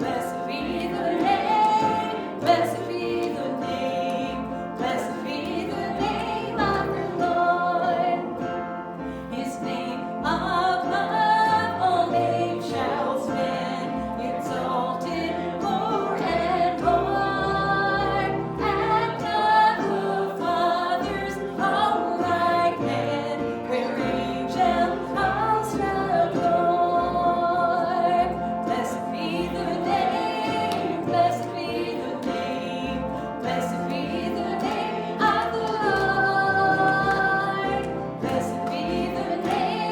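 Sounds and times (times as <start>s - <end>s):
congregation singing worship song: 0.0s - 39.9s.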